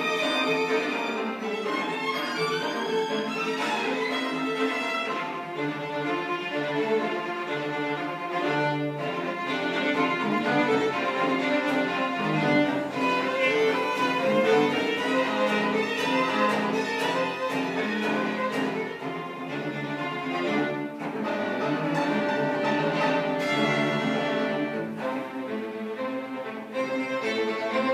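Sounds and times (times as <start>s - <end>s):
string quartet playing: 0.0s - 27.9s.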